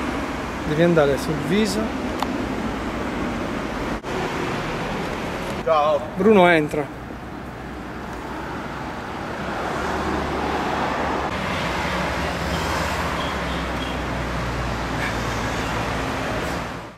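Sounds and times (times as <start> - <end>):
passing vehicles rushing: 0.0 - 16.9.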